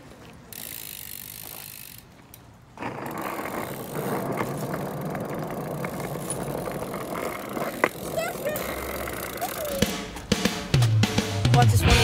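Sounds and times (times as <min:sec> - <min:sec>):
bike clicks and rattles: 0:00.0 - 0:10.9
bike tyres rolling on pavement: 0:00.0 - 0:11.2.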